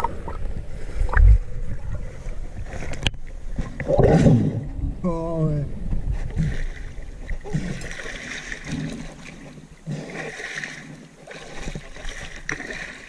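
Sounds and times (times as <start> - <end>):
water sloshing and splashing: 0.0 - 5.0, 5.8 - 13.0.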